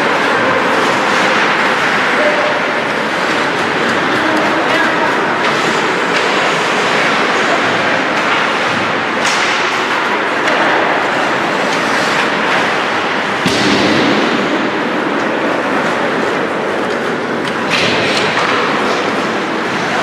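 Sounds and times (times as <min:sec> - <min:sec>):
hockey sticks and puck clacking: 0:00.0 - 0:20.0
skates scraping ice: 0:00.0 - 0:20.0.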